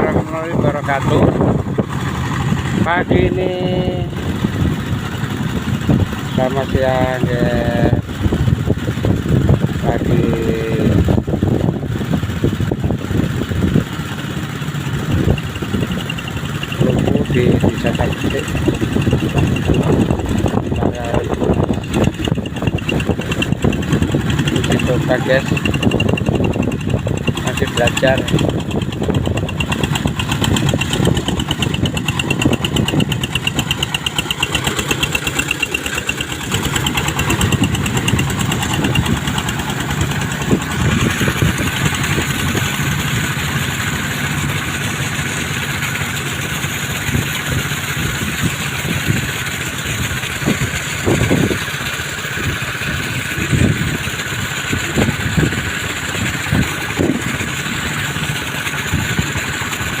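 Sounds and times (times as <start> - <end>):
jet boat engine running: 0.0 - 60.0.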